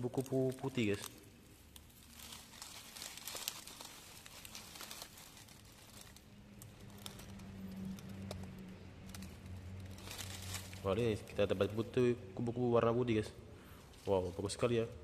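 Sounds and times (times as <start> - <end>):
mesh net rustling in leaves: 0.0 - 15.0.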